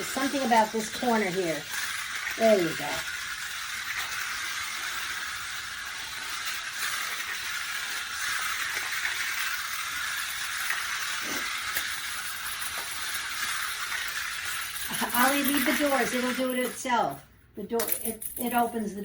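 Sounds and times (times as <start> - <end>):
toy race cars whirring: 0.0 - 17.0.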